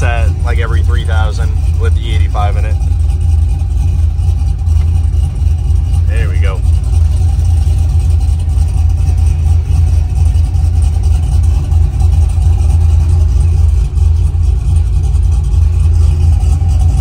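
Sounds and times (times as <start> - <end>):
truck engine cruising: 0.0 - 17.0.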